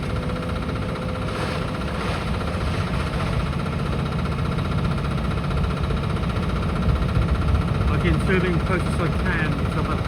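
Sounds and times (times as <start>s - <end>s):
diesel engine rumble: 0.0s - 10.0s.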